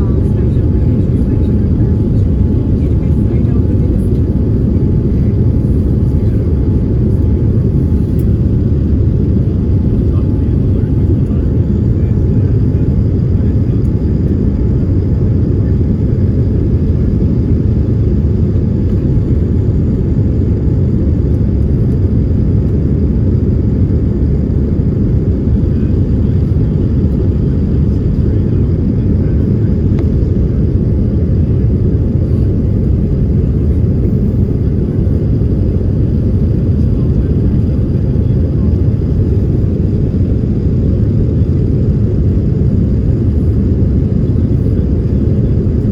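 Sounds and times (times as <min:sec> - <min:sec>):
airliner engines rumbling in cabin: 0:00.0 - 0:45.9.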